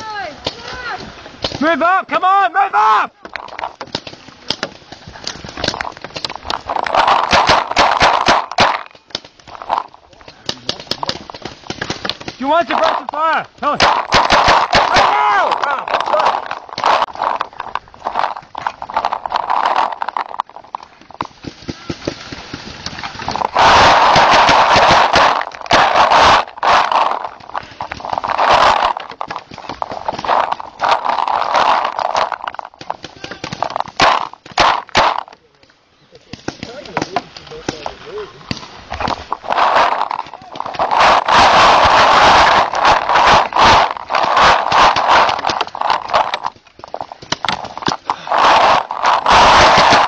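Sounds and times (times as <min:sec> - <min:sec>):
footsteps: 0:03.1 - 0:50.0
rustling and scraping near microphone: 0:03.3 - 0:35.3, 0:36.3 - 0:50.0
paintball markers firing bursts: 0:03.4 - 0:22.6, 0:23.3 - 0:35.4, 0:38.5 - 0:50.0.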